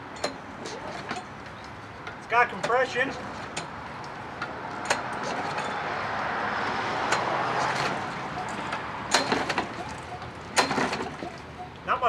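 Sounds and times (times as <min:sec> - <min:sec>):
lawnmower engine turning over: 0:00.0 - 0:11.8.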